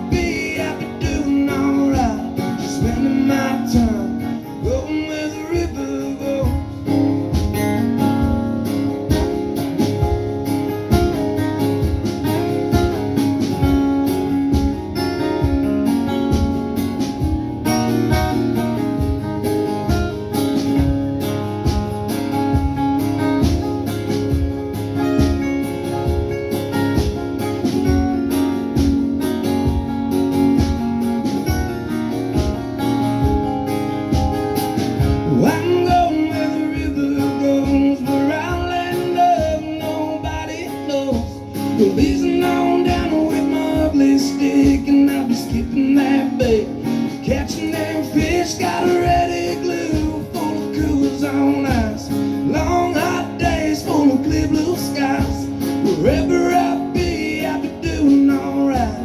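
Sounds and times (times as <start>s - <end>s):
drum beat: 0.0s - 5.0s, 5.6s - 59.0s
bass: 0.0s - 59.0s
country band playing: 0.0s - 59.0s
lead guitar: 0.0s - 59.0s.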